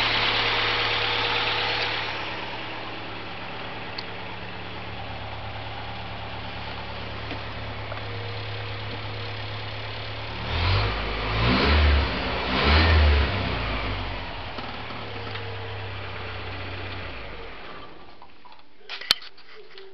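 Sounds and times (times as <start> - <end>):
car engine idling and revving: 0.0 - 18.2.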